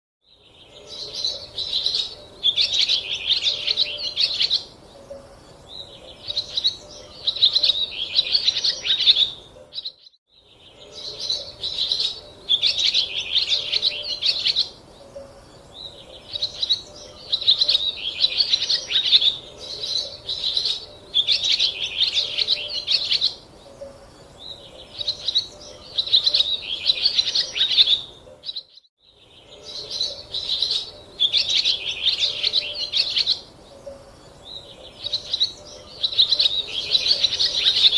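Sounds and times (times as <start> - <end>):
small bird chirping: 0.2 - 37.9.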